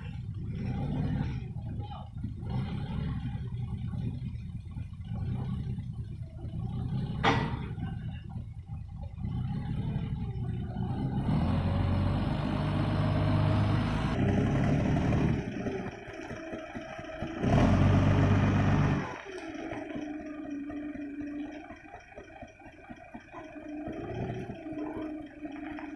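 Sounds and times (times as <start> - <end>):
forklift engine revving: 0.0 - 25.9.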